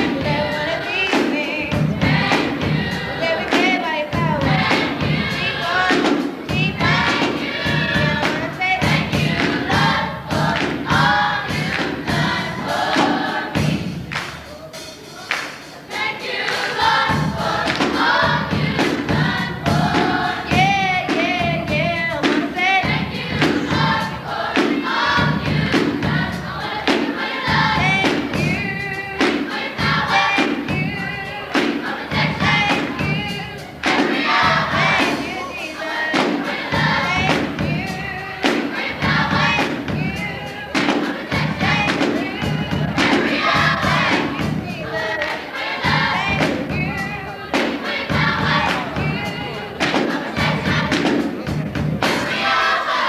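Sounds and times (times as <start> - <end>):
choir singing gospel: 0.0 - 53.0
steady beat: 0.0 - 53.0.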